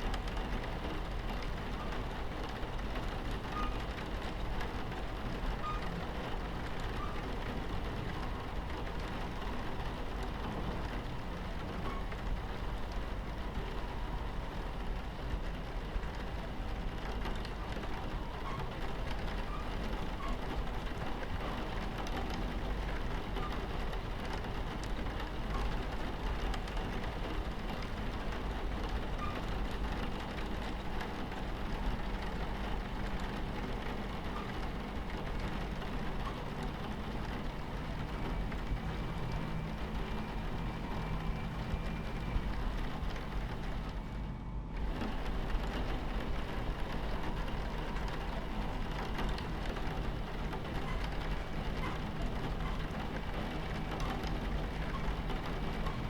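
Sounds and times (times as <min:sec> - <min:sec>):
rain against window: 0:00.0 - 0:56.0
train rumbling on tracks: 0:00.0 - 0:56.0.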